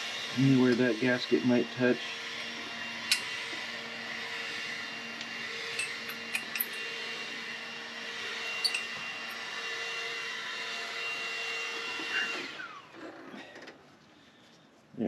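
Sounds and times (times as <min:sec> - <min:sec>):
leaf blower whining drone: 0:00.0 - 0:13.6.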